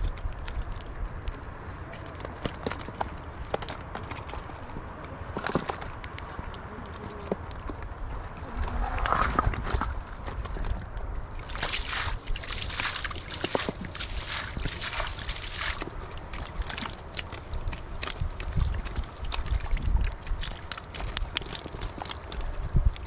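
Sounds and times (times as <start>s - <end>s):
splashing in muddy water: 0.0s - 23.0s.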